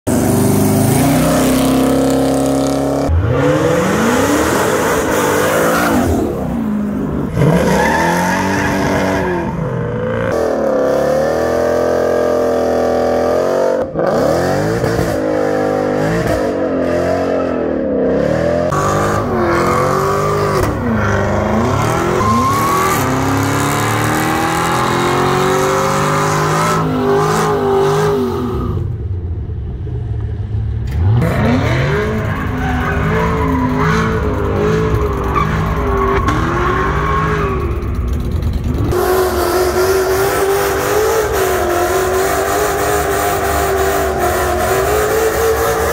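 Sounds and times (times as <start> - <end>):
car engines revving hard: 0.0 - 29.1, 30.8 - 45.9.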